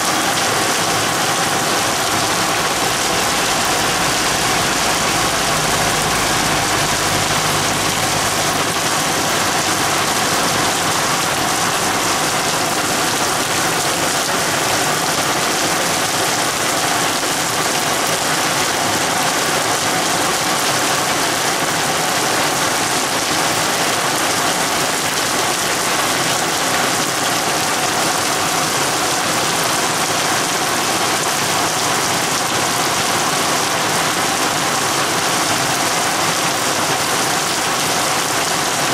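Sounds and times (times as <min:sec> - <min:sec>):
heavy rain on ground and puddles: 0:00.0 - 0:38.9.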